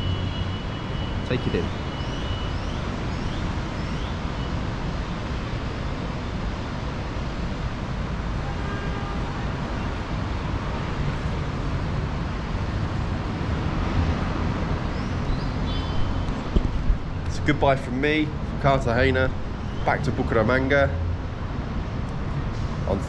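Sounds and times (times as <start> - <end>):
road traffic: 0.0 - 23.0
wind: 0.0 - 23.0.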